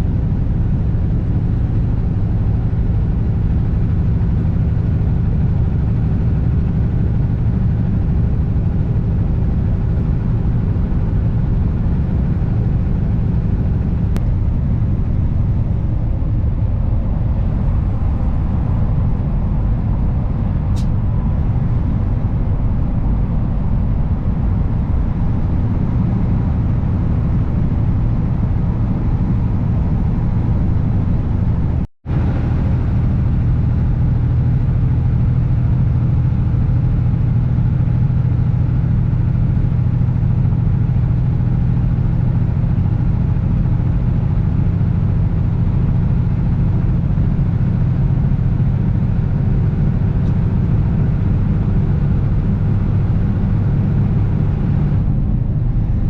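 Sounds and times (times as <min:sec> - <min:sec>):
road and wind noise: 0:00.0 - 0:56.0
truck diesel engine droning: 0:00.0 - 0:56.0.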